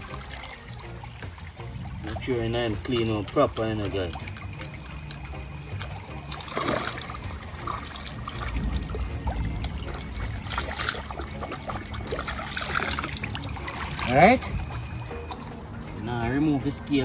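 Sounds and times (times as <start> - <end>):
stream trickling over stones: 0.0 - 17.0
water splashes: 0.0 - 17.0.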